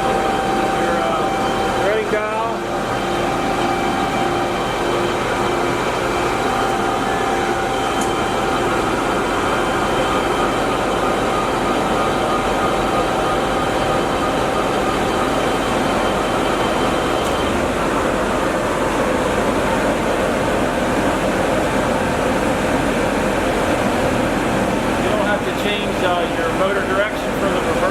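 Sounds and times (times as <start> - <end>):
lathe running with whining hum: 0.0 - 27.9.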